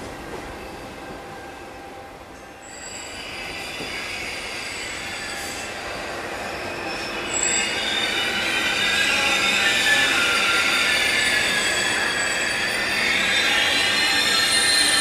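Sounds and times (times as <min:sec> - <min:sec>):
train rolling noise: 0:00.0 - 0:15.0
train wheels squealing on rails: 0:00.0 - 0:15.0.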